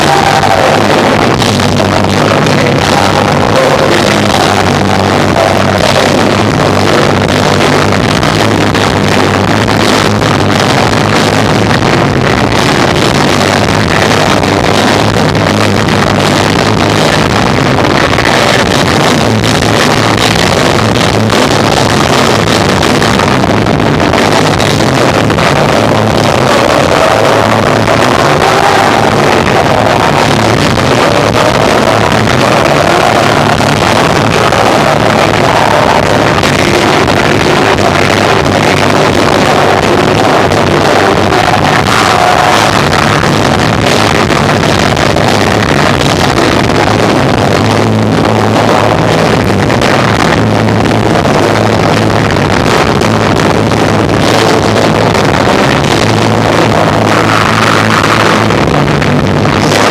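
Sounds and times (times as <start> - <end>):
bass notes: 0.0 - 59.9
distorted live rock band: 0.0 - 59.9.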